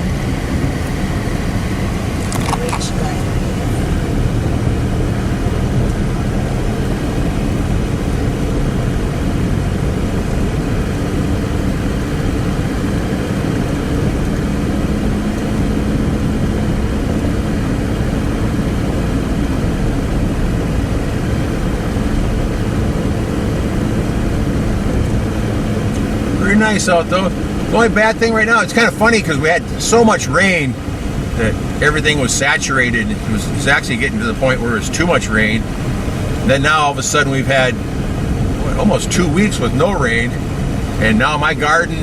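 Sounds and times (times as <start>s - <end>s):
low hum: 0.0s - 42.0s
road noise: 0.0s - 42.0s
vehicle engine drone: 0.0s - 42.0s.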